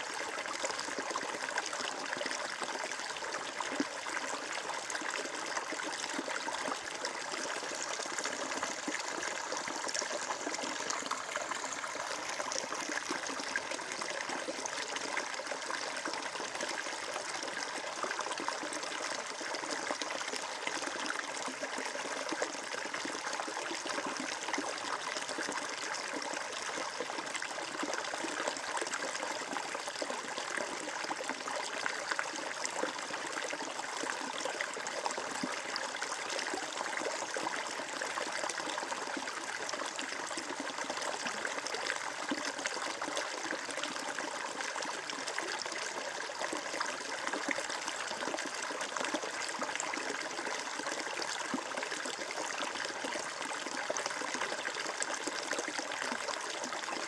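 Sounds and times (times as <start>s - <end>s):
water flowing and trickling: 0.0s - 57.0s.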